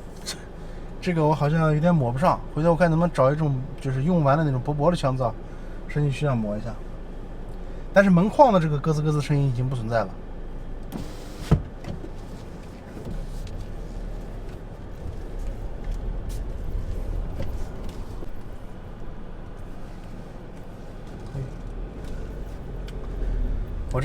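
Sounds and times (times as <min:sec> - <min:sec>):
car cabin road rumble: 0:00.0 - 0:24.0.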